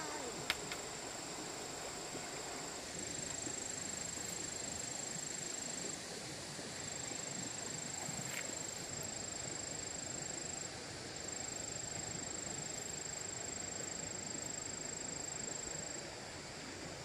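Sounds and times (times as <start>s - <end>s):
constant rushing hiss: 0.0s - 17.0s.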